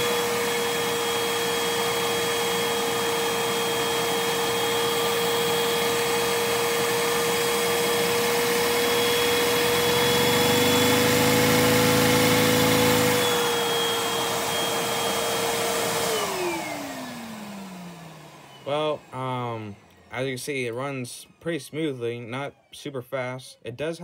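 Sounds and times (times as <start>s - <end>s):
vacuum cleaner whine and hiss: 0.0s - 23.0s.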